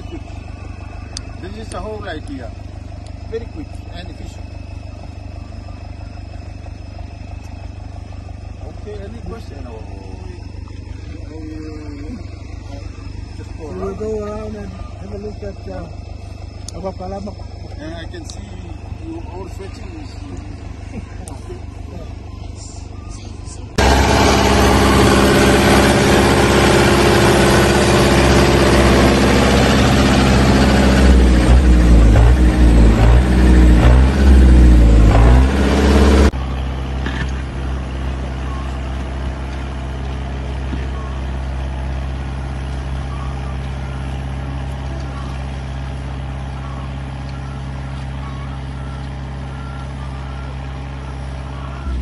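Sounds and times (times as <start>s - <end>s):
tractor engine under load: 0.0s - 52.0s.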